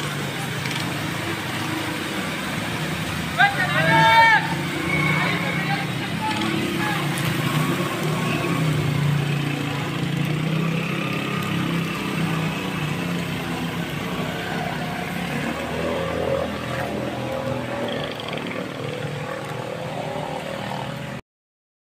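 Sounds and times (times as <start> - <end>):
water washing: 0.0 - 20.5
motorcycle passing: 0.0 - 21.2.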